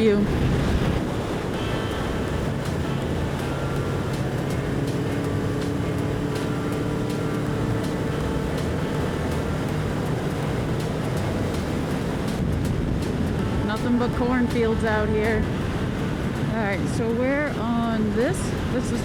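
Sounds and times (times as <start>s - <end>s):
motorcycle engine cruising: 0.0s - 19.0s
road and wind noise: 0.0s - 19.0s.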